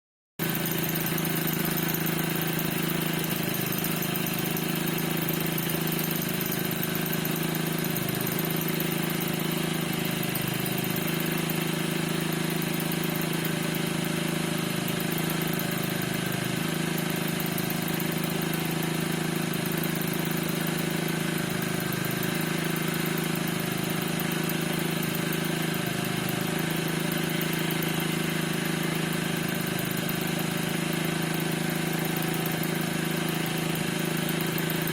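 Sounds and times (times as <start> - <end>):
scooter engine idling: 0.4 - 34.9.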